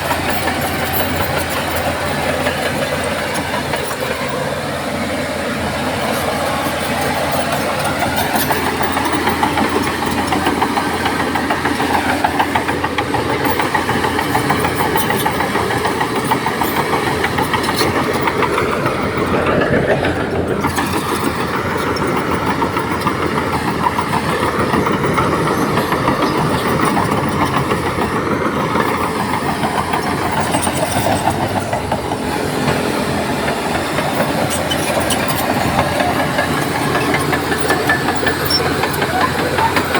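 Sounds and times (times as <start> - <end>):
heavy diesel engine chugging: 0.0 - 39.9.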